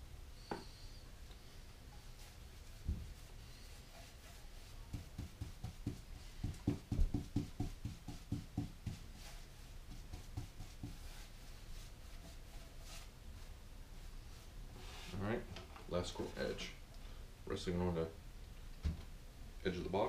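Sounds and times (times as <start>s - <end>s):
soft low knocks of brush strokes: 0.5s - 16.9s.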